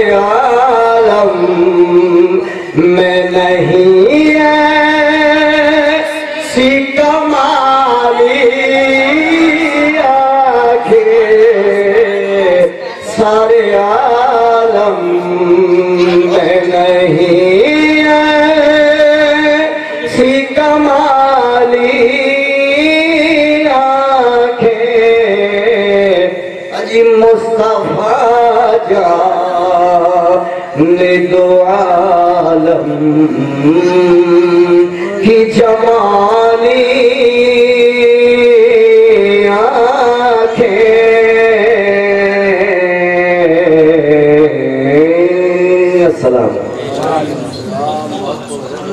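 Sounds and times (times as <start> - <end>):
man singing unaccompanied: 0.0 - 46.5.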